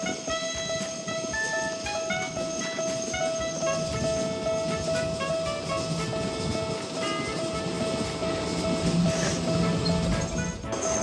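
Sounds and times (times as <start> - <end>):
chiming electronic melody: 0.0 - 11.0
held electronic tone: 0.0 - 11.0
low rattling rumble: 1.6 - 11.0.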